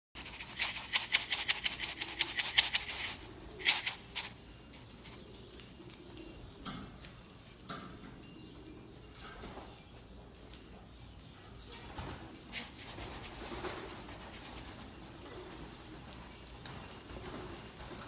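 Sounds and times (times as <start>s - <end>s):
pigeons clicking and rustling: 0.2s - 18.0s.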